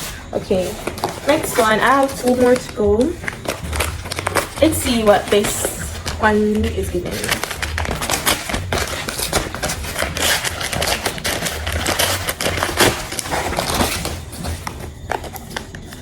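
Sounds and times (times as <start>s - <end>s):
packaging crackling and clicking: 0.0s - 16.0s.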